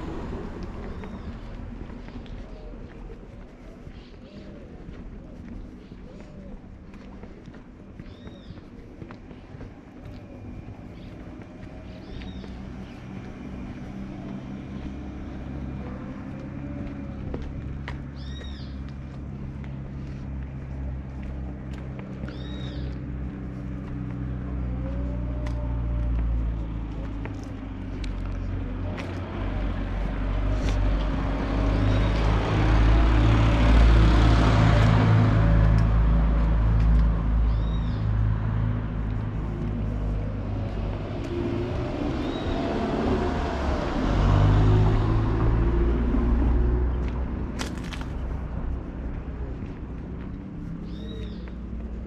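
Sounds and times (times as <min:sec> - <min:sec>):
vehicle passing by: 0:00.0 - 0:52.0.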